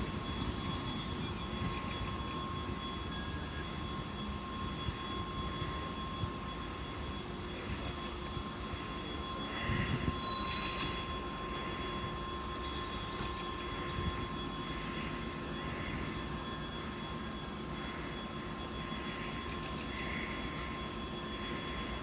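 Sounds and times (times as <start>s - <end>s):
diesel locomotive running: 0.0s - 22.0s.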